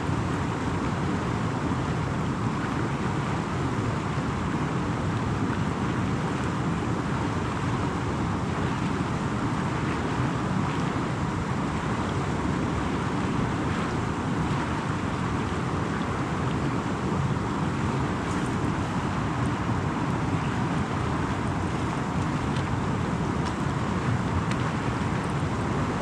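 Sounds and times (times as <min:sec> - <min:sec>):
wind blowing across microphone: 0:00.0 - 0:26.0.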